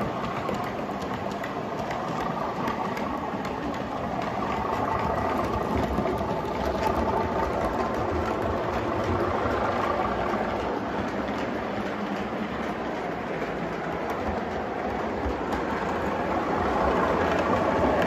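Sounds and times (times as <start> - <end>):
model locomotive running: 0.0 - 18.0
wheels rumbling on track: 0.0 - 18.0.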